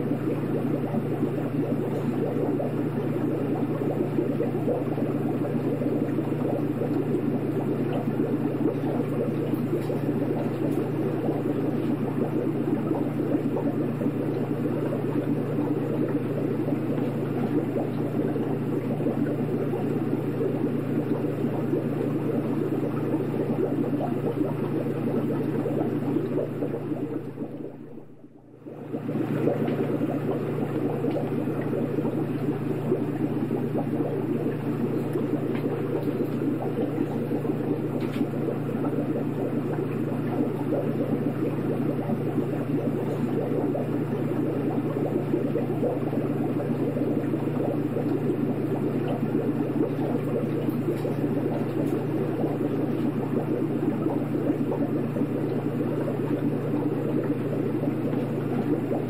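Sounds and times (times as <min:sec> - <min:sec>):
aquarium water bubbling: 0:00.0 - 0:59.0
low hum: 0:00.0 - 0:59.0.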